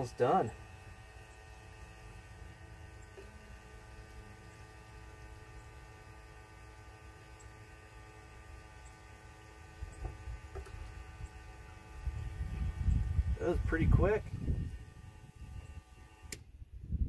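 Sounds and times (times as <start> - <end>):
liquid transfer pump motor hum: 0.0 - 17.0.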